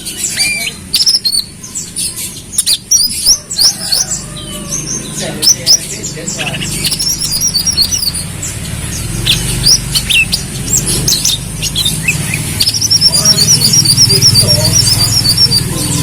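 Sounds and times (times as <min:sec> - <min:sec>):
bird chirping: 0:00.0 - 0:16.0
bird warbling trill: 0:00.0 - 0:16.0.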